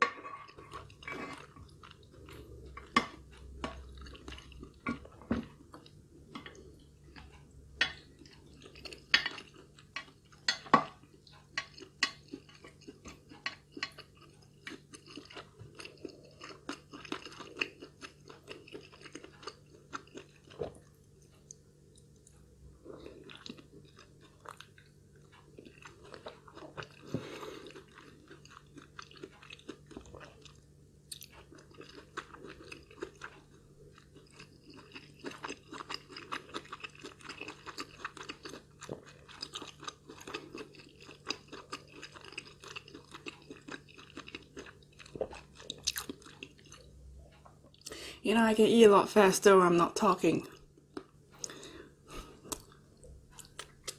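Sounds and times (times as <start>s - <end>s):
person chewing food: 0.1s - 48.2s, 50.5s - 53.9s.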